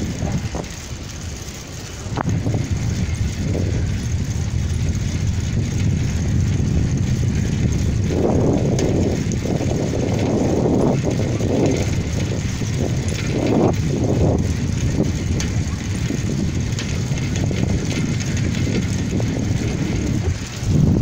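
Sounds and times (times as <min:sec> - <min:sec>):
low road rumble: 0:00.0 - 0:21.0
wind buffeting microphone: 0:00.0 - 0:21.0.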